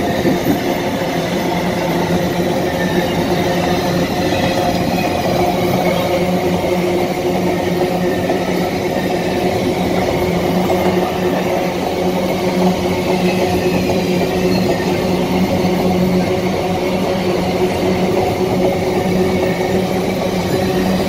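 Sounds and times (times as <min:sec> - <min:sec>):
train wheels running on rails: 0:00.0 - 0:21.0.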